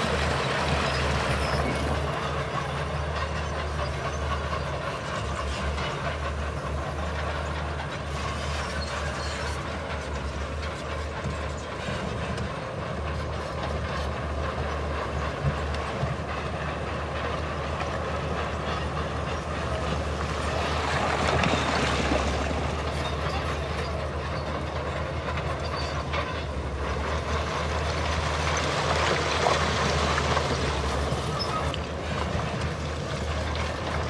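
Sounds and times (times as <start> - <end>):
diesel engine droning: 0.0 - 34.0
steel tracks clanking: 0.0 - 34.0.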